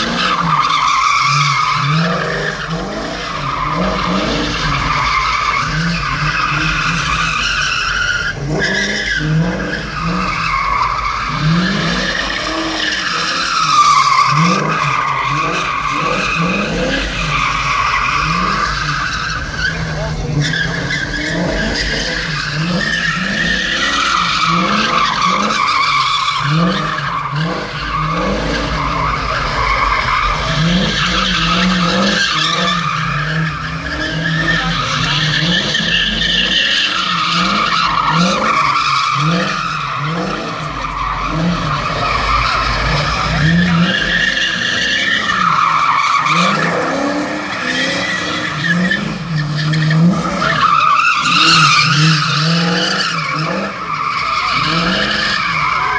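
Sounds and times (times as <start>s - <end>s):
car engine revving: 0.0s - 55.9s
tyres screeching on pavement: 0.0s - 55.9s.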